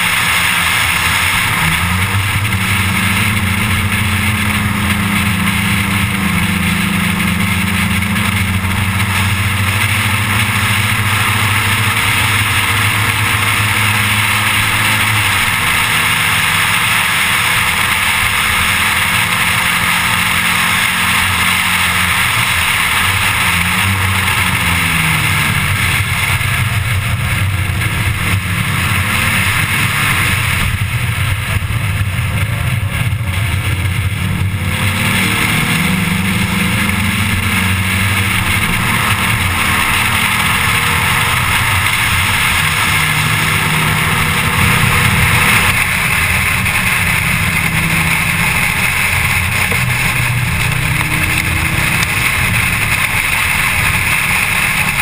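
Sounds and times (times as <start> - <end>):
loud wind noise: 0.0 - 55.0
race car engine revving: 0.0 - 55.0.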